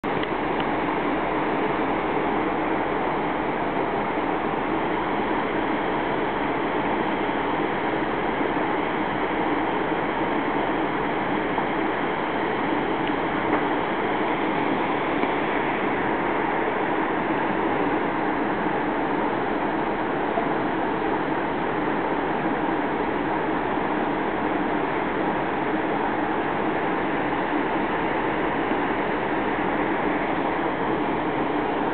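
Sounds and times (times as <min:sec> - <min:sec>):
river water rushing: 0:00.3 - 0:31.9.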